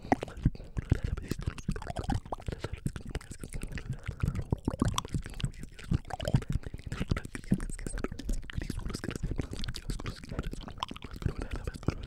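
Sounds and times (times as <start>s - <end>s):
breathy whispering: 0.0s - 12.0s
wet mouth clicks and smacks: 0.0s - 12.0s.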